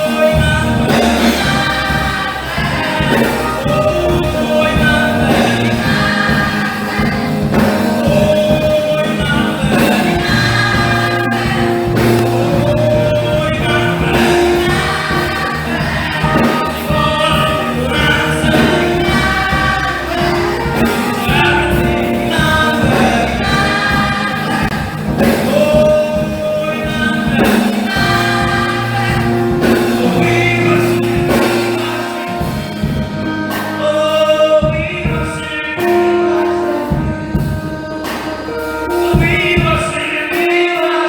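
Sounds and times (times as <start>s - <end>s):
choir singing gospel song: 0.0s - 41.0s
instrumental backing: 0.0s - 41.0s.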